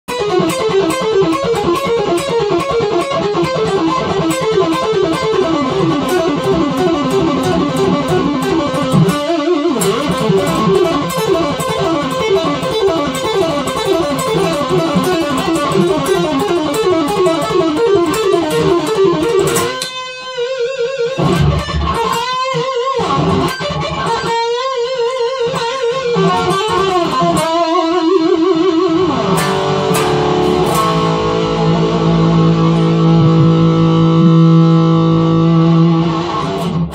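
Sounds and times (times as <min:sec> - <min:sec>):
electric guitar metal riff: 0:00.1 - 0:36.9.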